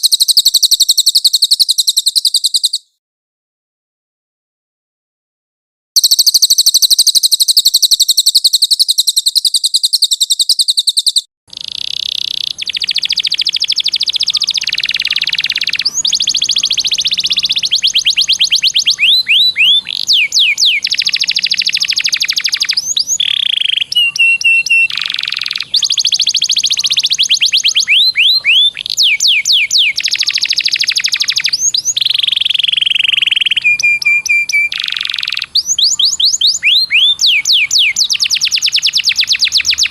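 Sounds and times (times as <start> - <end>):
high fast bird trill: 0.0 - 2.9, 6.0 - 39.9
songbird rolling trills and whistles: 0.0 - 2.9, 6.0 - 39.9.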